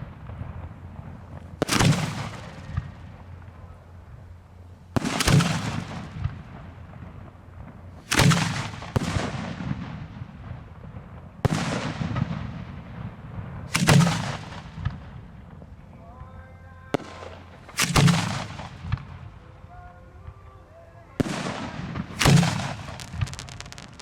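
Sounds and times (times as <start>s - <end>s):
fireworks booming: 0.0s - 15.9s, 16.9s - 24.0s
fireworks crackle: 0.0s - 16.1s, 16.9s - 24.0s.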